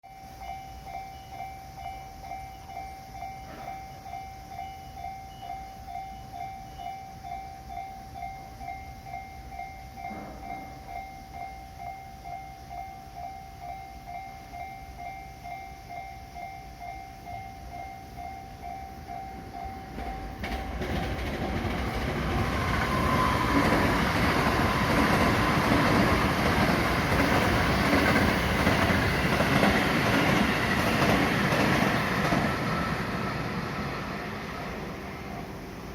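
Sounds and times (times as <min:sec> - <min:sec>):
level crossing warning bell: 0:00.0 - 0:35.9
train rumble and wheel clatter: 0:00.4 - 0:12.0, 0:17.6 - 0:35.9.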